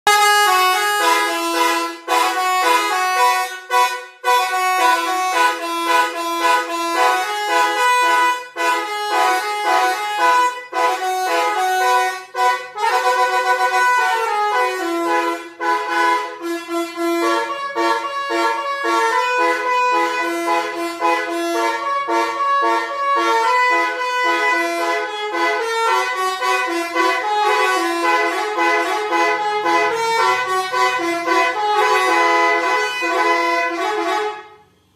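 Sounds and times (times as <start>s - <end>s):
vehicle melody horn: 0.0s - 34.9s.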